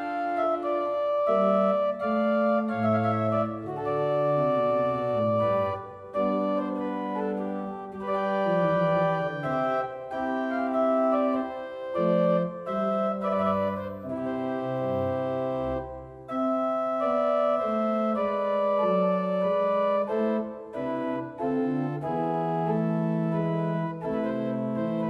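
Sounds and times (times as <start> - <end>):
church pipe organ chords: 0.0 - 25.0
deep organ pedal bass notes: 0.2 - 25.0.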